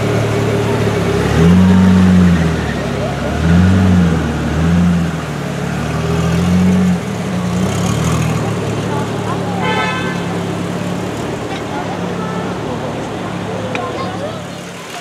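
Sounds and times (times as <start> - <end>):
sports car engine revving: 0.0 - 14.7.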